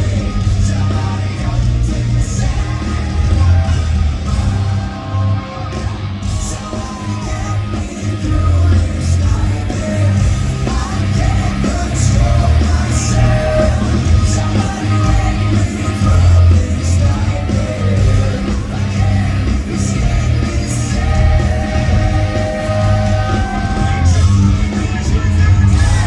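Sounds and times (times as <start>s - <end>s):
hard rock band playing: 0.0s - 26.0s
person singing: 0.0s - 26.0s.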